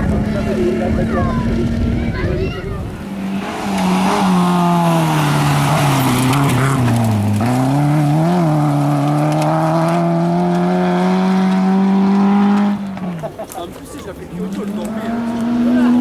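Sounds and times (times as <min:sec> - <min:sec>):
rally car engine: 0:00.0 - 0:16.0.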